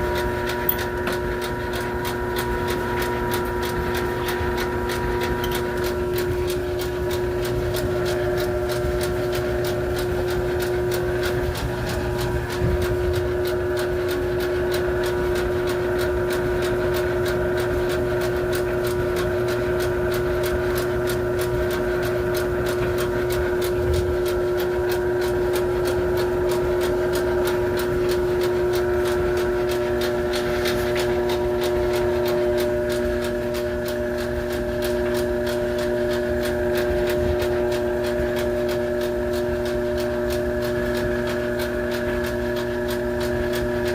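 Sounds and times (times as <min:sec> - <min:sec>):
machine humming: 0:00.0 - 0:43.9.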